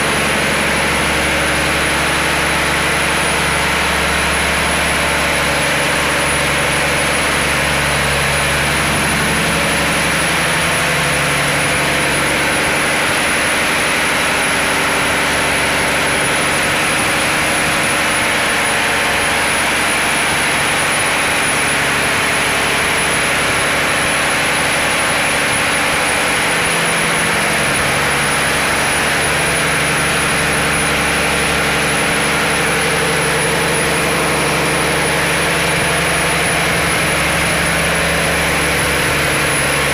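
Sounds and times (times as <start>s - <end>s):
diesel engine running: 0.0s - 39.9s
high whine: 0.0s - 39.9s.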